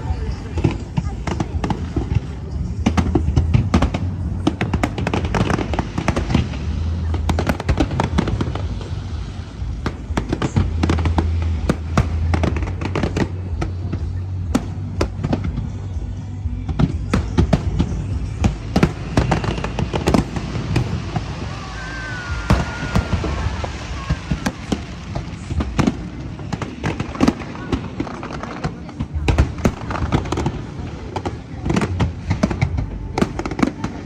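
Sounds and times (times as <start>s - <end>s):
music with low bass notes: 0.0s - 21.5s, 22.5s - 34.0s
fireworks bangs and crackles: 0.0s - 34.0s.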